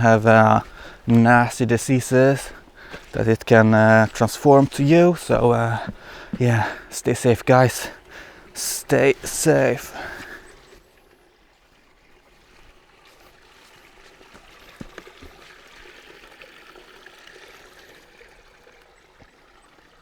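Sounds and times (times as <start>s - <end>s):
river flowing: 0.0s - 20.0s.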